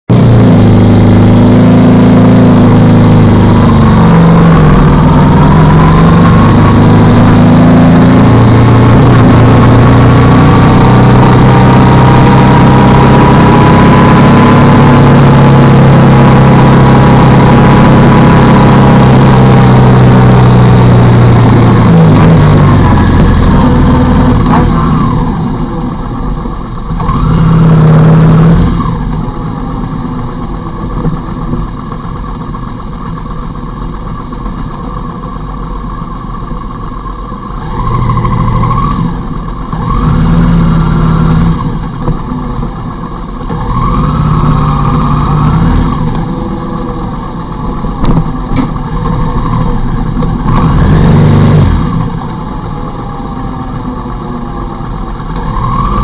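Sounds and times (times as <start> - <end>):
motorcycle engine running: 0.1 - 56.0.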